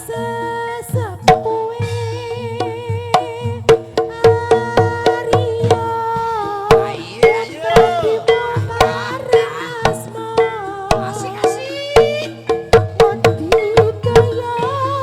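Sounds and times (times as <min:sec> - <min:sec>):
hand drum strokes: 0:00.0 - 0:15.0
sliding melody line: 0:00.0 - 0:15.0.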